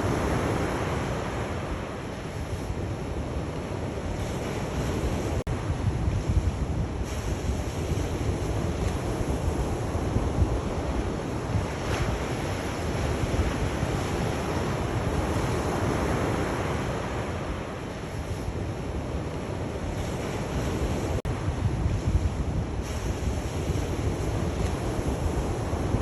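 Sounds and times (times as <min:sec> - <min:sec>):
sea waves washing onto shore: 0:00.0 - 0:26.0
wind rumbling on microphone: 0:00.0 - 0:26.0.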